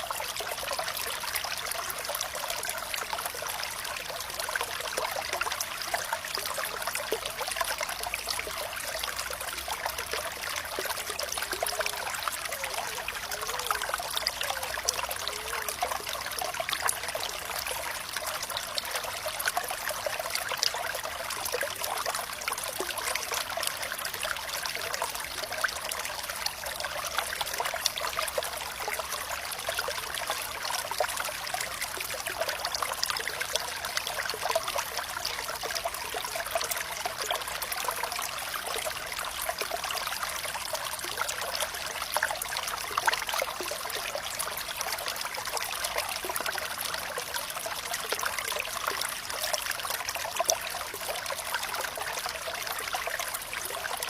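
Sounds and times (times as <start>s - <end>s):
water flowing and trickling: 0.0s - 54.0s.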